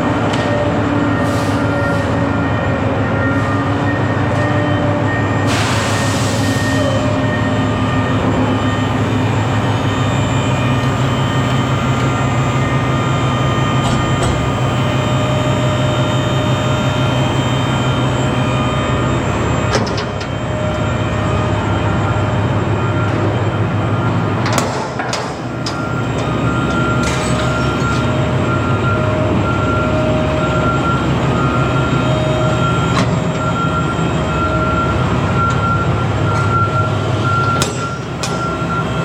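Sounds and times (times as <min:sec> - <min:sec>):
truck engine and road rumble: 0:00.0 - 0:39.0.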